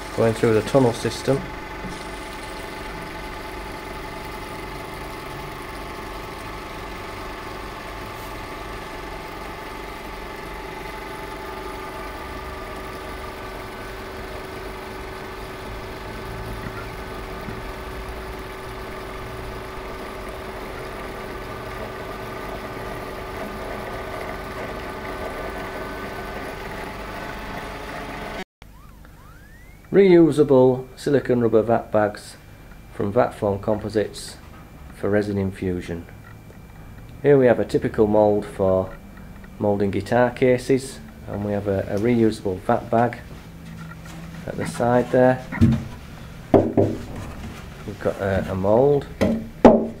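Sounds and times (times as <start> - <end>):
vacuum pump humming: 0.0 - 50.0.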